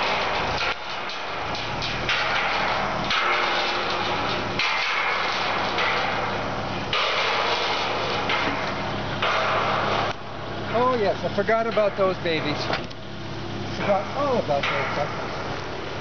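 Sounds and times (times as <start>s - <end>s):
car engine humming: 0.0s - 16.0s
metal sculpture rattling over gravel: 0.0s - 16.0s.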